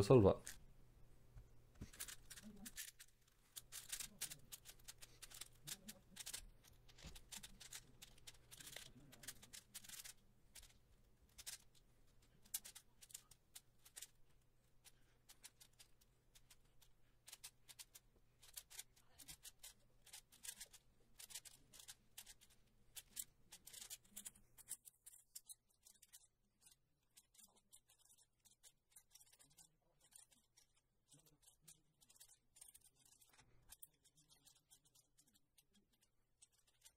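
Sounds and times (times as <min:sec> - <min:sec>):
plastic puzzle cube clicking: 0:01.8 - 0:14.2, 0:14.8 - 0:30.7, 0:31.3 - 0:36.9.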